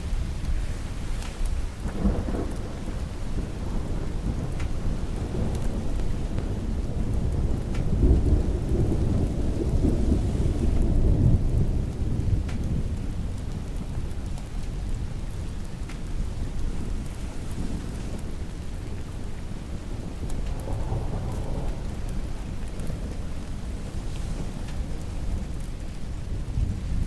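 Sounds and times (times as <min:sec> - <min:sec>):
steady rain: 0:00.0 - 0:27.0
rolling thunder: 0:01.6 - 0:27.0.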